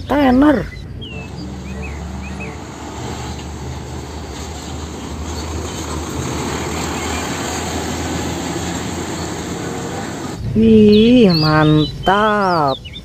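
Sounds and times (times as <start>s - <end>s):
truck diesel engine passing: 0.0s - 13.0s
tyre and road noise: 0.0s - 13.0s.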